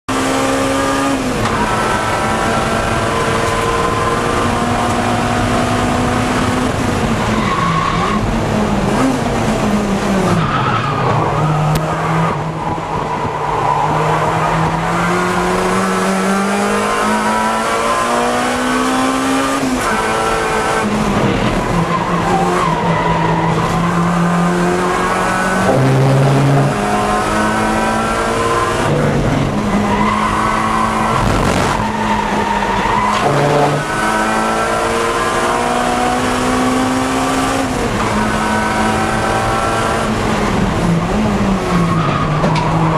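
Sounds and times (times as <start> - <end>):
race car engine revving: 0.1 - 42.9.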